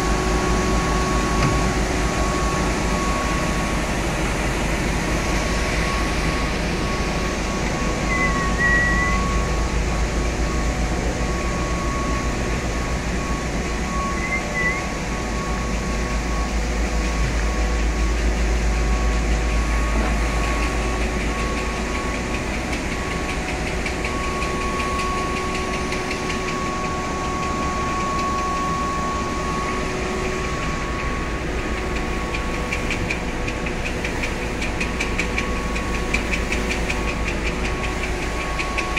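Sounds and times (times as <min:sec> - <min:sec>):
machinery humming and whining: 0:00.0 - 0:38.9.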